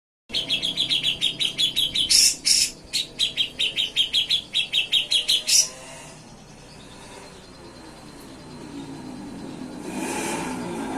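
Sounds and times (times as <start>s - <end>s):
bulbul singing chattering trills: 0.3s - 10.9s.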